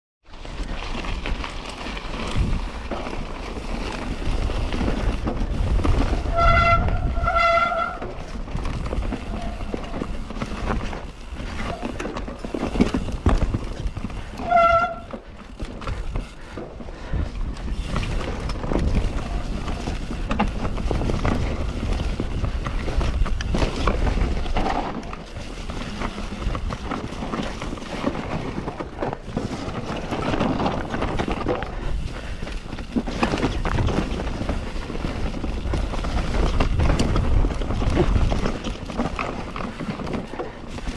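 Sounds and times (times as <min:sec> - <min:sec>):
bike tyres rolling on dirt: 0:00.2 - 0:40.9
bike rattling over bumps: 0:00.3 - 0:40.9
wind rumbling on microphone: 0:00.3 - 0:40.9.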